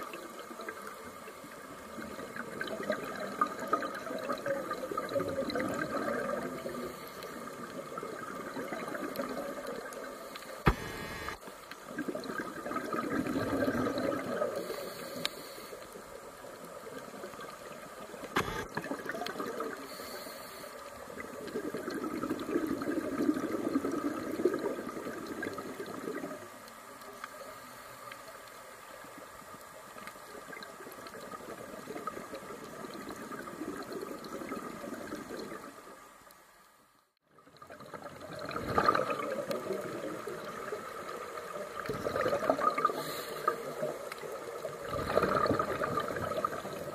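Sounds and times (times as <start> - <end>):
scuba breathing bubbles underwater: 0.0 - 28.6, 37.5 - 46.9.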